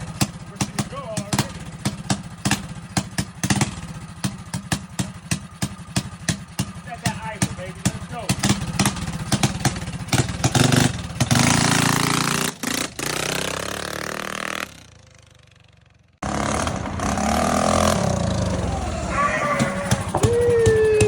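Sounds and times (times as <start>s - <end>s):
mini bike engine revving: 0.0s - 21.0s.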